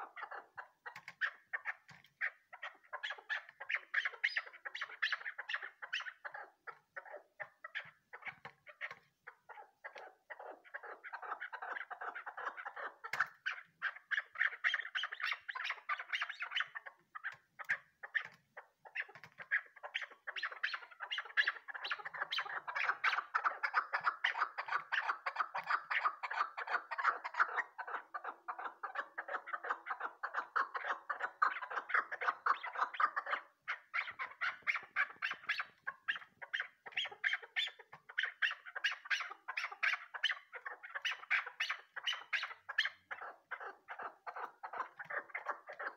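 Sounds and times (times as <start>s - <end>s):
partridge clucking calls: 0.0s - 45.9s.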